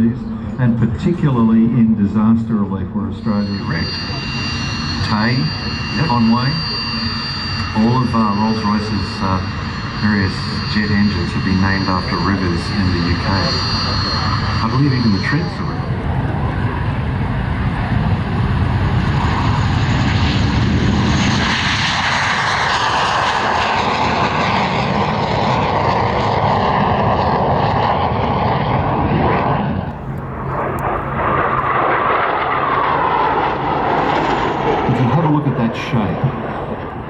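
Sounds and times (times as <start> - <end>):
jet engine passing: 1.3 - 37.0.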